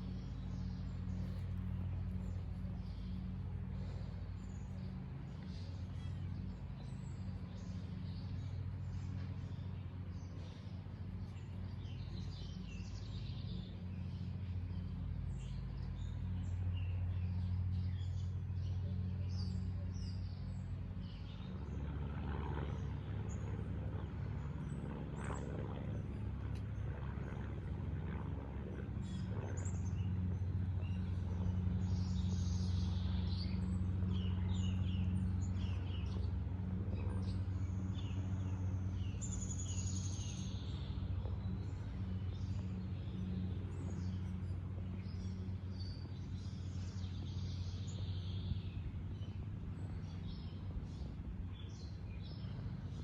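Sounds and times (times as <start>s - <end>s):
birds chirping: 0.0s - 53.0s
steady low hum: 0.0s - 53.0s.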